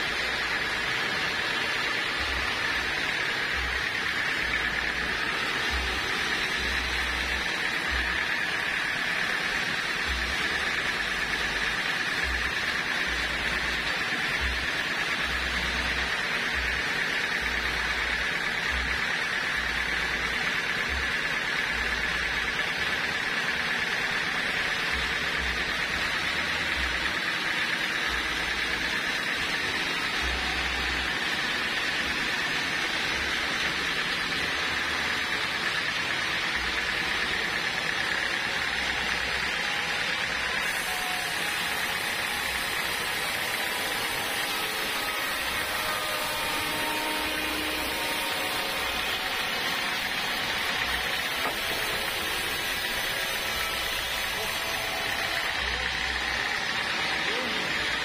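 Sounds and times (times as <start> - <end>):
band saw sawing log: 0.0 - 58.0.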